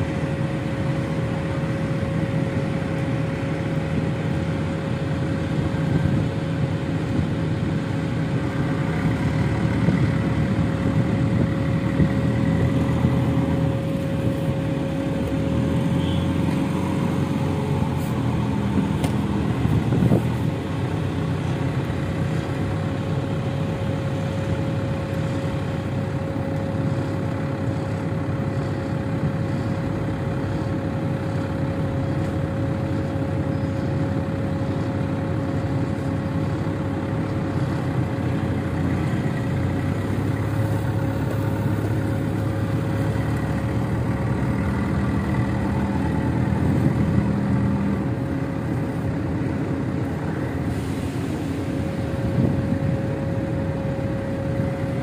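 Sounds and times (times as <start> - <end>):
constant high whine: 0.0 - 55.0
diesel engine running: 0.0 - 55.0.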